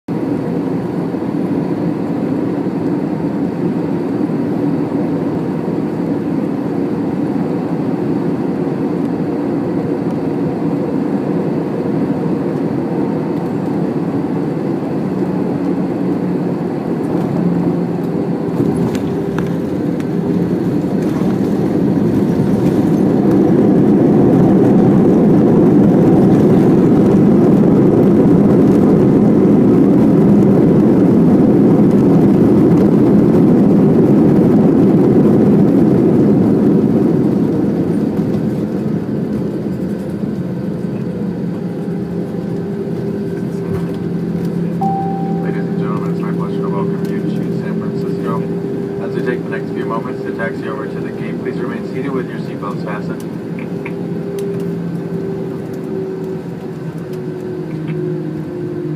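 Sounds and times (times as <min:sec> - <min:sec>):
airplane cabin airflow and engines: 0:00.1 - 0:58.9.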